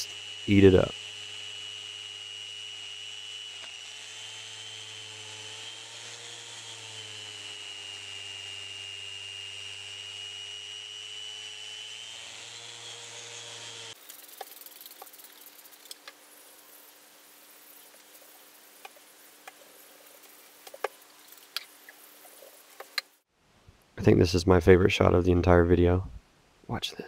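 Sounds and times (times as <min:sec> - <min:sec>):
sander whining: 0:00.0 - 0:23.2.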